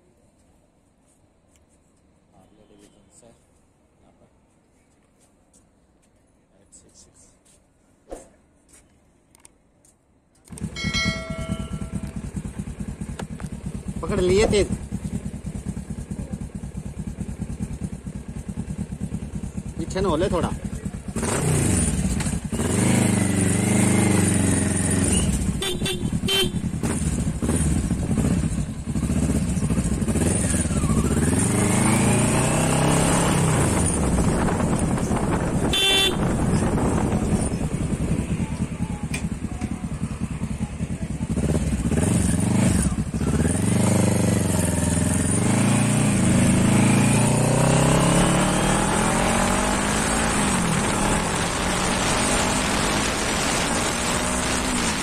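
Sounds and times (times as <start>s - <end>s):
motorcycle engine accelerating: 10.5s - 55.0s.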